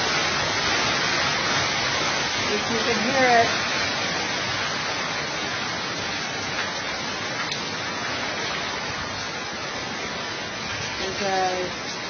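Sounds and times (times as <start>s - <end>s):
heavy rain: 0.0s - 12.0s
strong wind: 0.0s - 12.0s.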